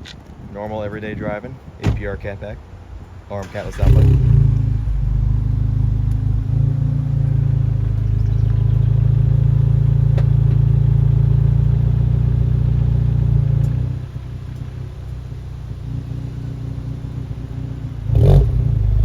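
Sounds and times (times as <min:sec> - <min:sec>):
car exhaust drone: 0:02.8 - 0:19.0.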